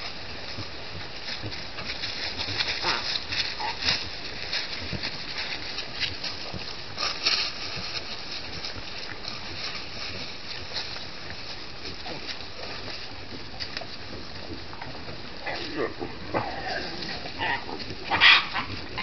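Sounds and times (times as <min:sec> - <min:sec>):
animal footsteps on leaves: 0:00.0 - 0:19.0
rustling in dry leaves: 0:00.0 - 0:19.0
steady hiss: 0:00.0 - 0:19.0.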